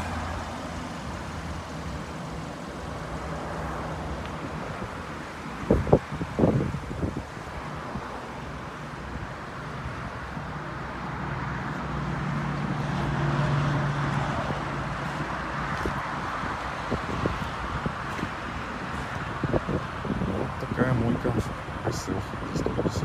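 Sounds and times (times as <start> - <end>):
car passing by: 0.0 - 19.8
wind on microphone: 3.8 - 23.0.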